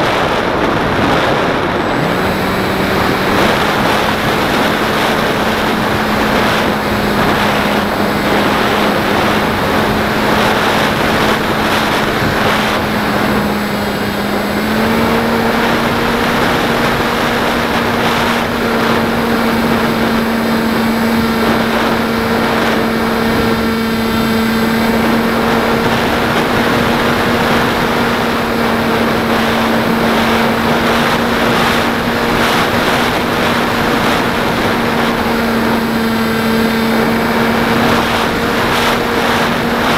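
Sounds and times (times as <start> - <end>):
model plane motor droning: 0.0 - 39.9
wind rush: 0.0 - 39.9.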